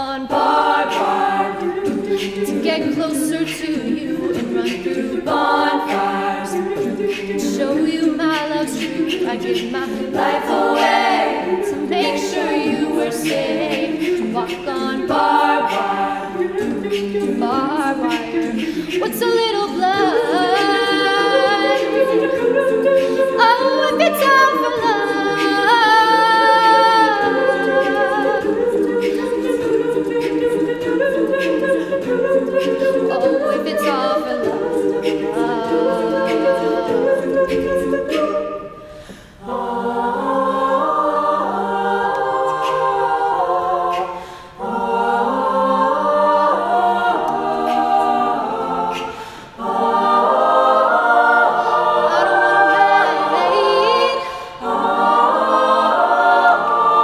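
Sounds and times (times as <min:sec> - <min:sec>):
women singing a cappella harmony: 0:00.0 - 0:57.0.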